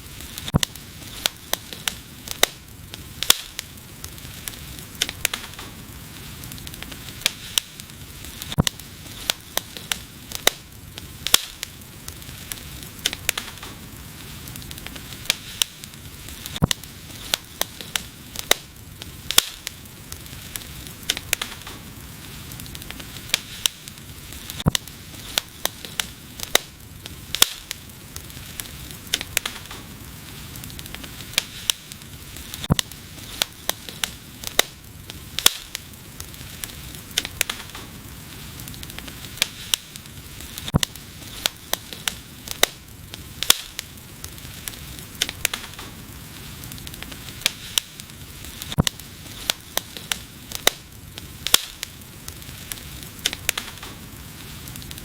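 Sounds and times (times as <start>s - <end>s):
hiss of burning flames: 0.0s - 55.0s
wood fire crackling: 0.0s - 55.0s.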